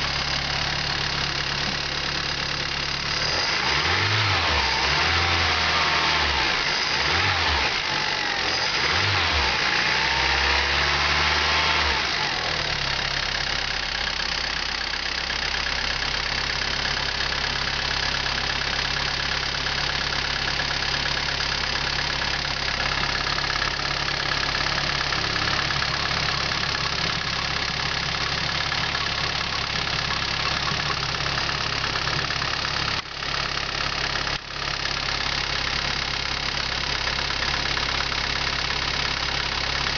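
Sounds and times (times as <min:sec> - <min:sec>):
rattling car engine revving and idling: 0:00.0 - 0:39.9.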